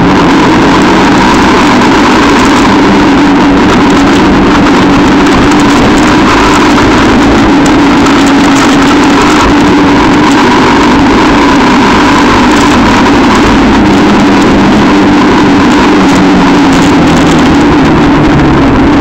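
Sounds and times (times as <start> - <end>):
quad bike engine droning: 0.0 - 19.0.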